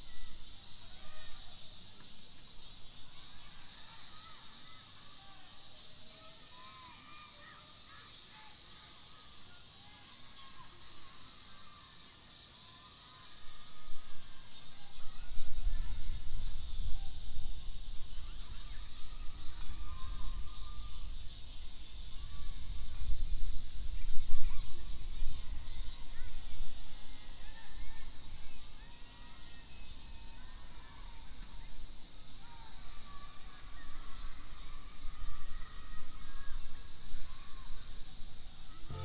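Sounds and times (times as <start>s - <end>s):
insect drone: 0.0s - 39.0s.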